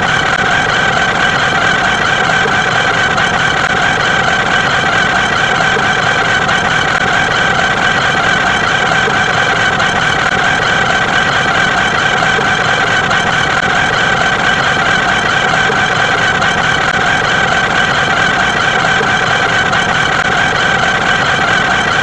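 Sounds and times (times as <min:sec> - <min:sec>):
buzzing engine-like drone: 0:00.0 - 0:22.0.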